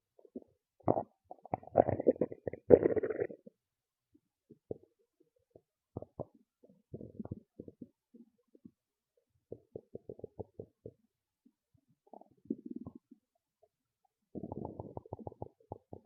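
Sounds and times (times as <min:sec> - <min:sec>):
stomach gurgling: 0:00.2 - 0:03.6, 0:04.5 - 0:16.0.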